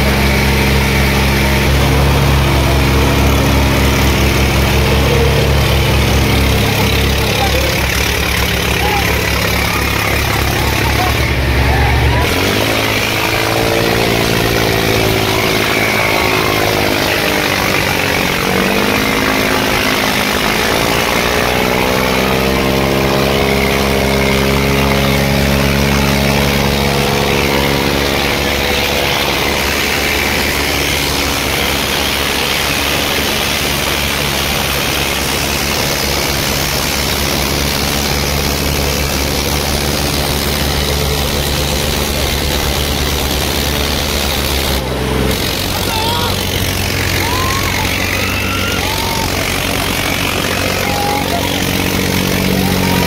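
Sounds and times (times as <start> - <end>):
tractor engines under load: 0.0 - 53.0.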